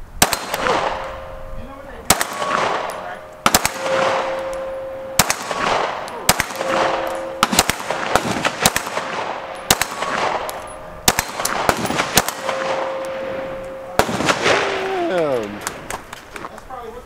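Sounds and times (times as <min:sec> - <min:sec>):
pistol shots with echo: 0:00.2 - 0:01.4, 0:02.0 - 0:16.0.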